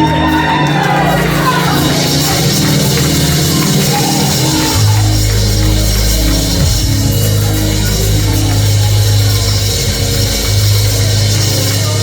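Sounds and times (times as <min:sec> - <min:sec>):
live church band music: 0:00.0 - 0:12.0.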